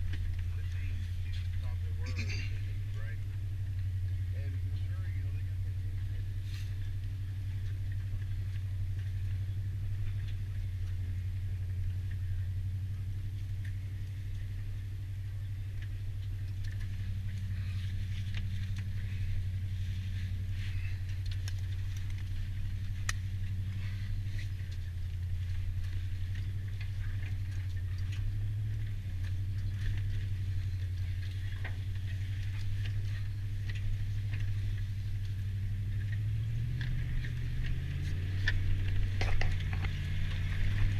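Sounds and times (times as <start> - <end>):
light clicks and rattles: 0.0 - 40.9
pickup engine running: 0.0 - 40.9.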